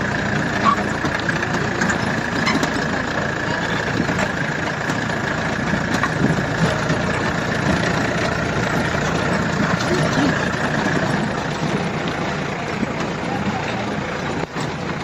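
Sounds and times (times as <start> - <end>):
car engine running: 0.0 - 15.0
vehicle knocks and rattles: 0.0 - 15.0.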